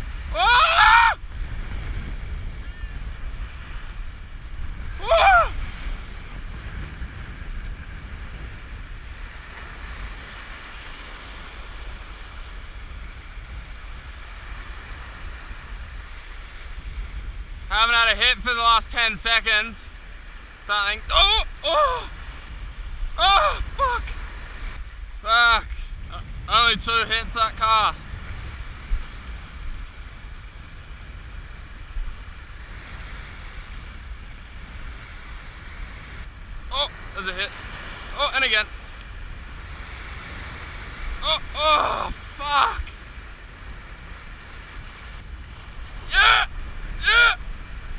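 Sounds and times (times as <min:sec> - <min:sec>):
surf and sea water: 0:00.0 - 0:47.9
wind buffeting microphone: 0:00.0 - 0:47.9.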